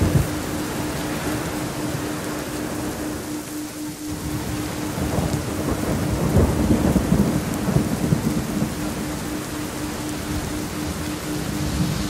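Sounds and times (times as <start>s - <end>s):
pulsing low tone: 0.0s - 12.0s
steady rain: 0.0s - 12.0s
thunder rumbling: 0.0s - 12.0s.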